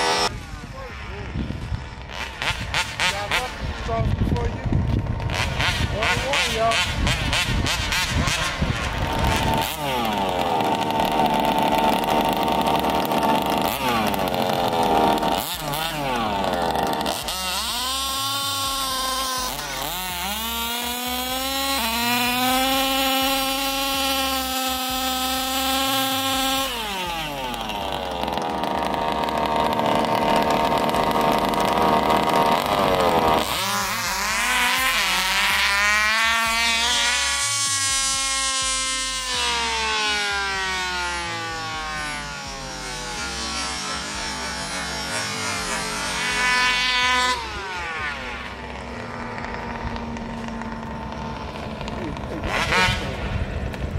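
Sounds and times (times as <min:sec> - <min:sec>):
small two-stroke engines revving: 0:00.0 - 0:53.9.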